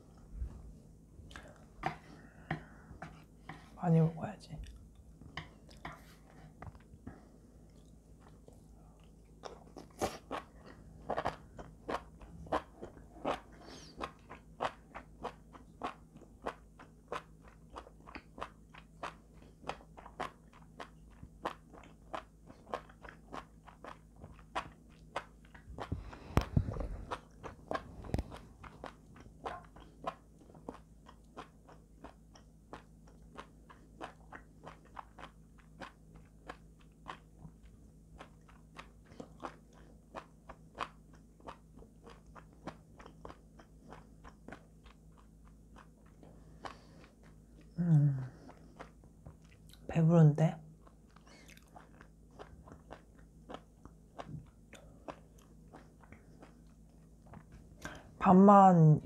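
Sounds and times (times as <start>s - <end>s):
mouth-closed chewing: 7.6s - 49.9s, 50.8s - 58.1s.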